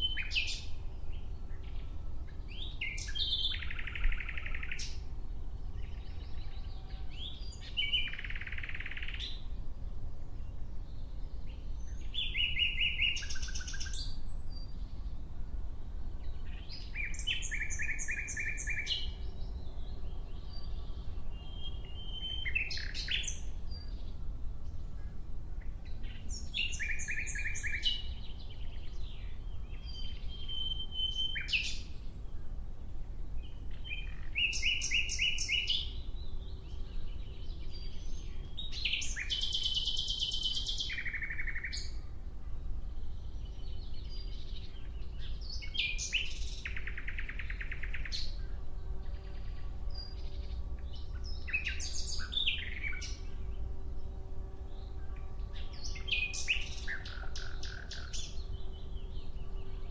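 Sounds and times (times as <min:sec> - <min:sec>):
low steady background rumble: 0:00.0 - 0:59.9
nightingale singing trills: 0:00.0 - 0:59.9.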